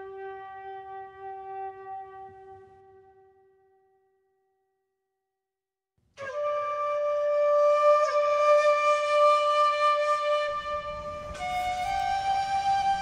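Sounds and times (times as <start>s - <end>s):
flute-like long note: 0.0s - 4.0s, 6.2s - 13.0s.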